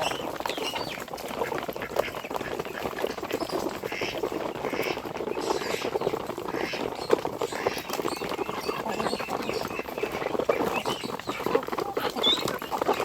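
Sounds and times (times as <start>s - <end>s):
clatter and scratching: 0.0s - 13.0s
poultry and ducks calling: 0.0s - 13.0s.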